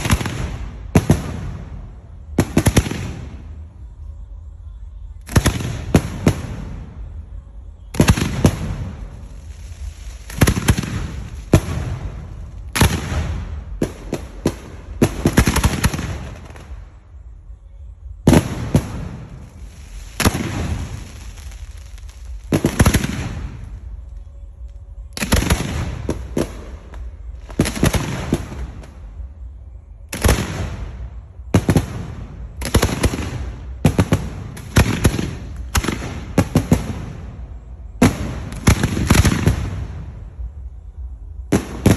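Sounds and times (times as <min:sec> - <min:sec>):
fireworks bangs: 0:00.0 - 0:03.8, 0:05.2 - 0:16.9, 0:18.1 - 0:24.2, 0:25.0 - 0:41.9
fireworks crackling: 0:00.0 - 0:04.0, 0:05.1 - 0:17.5, 0:18.1 - 0:41.9.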